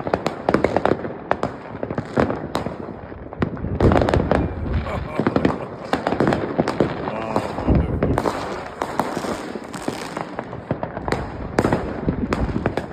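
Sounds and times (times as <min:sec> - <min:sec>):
fireworks and firecrackers banging: 0:00.0 - 0:12.9.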